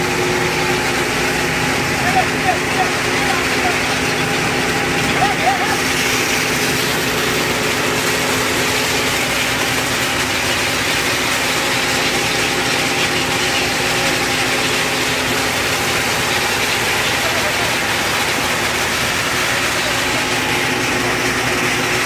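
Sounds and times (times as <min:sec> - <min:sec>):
fish and water pouring: 0:00.0 - 0:22.0
machinery humming: 0:00.0 - 0:22.0.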